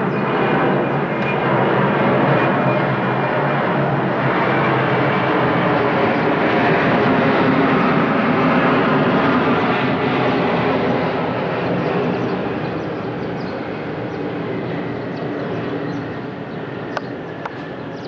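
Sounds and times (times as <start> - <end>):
airplane engines running: 0.0 - 18.0.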